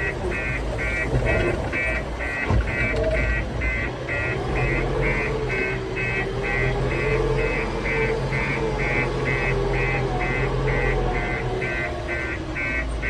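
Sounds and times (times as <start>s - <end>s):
reversing alarm beeping: 0.0s - 13.0s.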